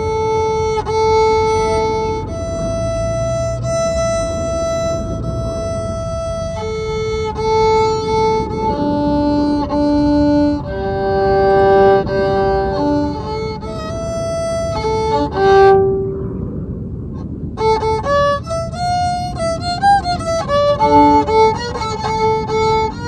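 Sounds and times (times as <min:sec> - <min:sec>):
violin playing slow melody: 0:00.0 - 0:16.4, 0:17.1 - 0:23.0.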